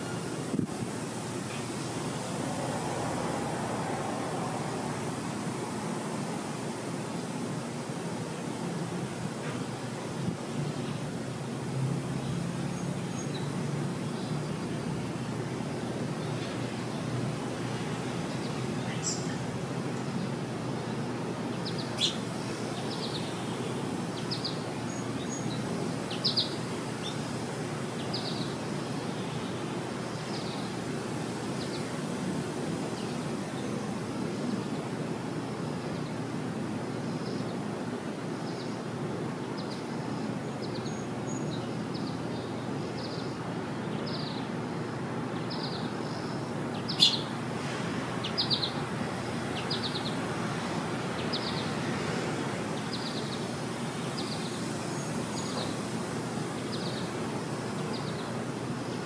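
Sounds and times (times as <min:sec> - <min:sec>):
small songbirds chirping: 0:09.9 - 0:35.0, 0:35.8 - 0:59.0.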